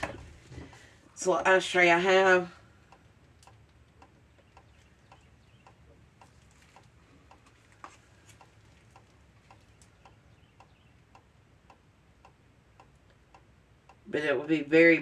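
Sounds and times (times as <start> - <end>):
faint steady ticking: 0.0 - 15.0.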